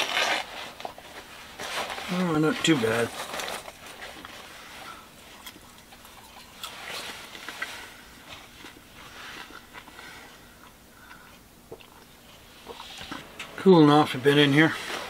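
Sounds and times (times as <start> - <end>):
chewing and crunching: 0.0 - 13.5.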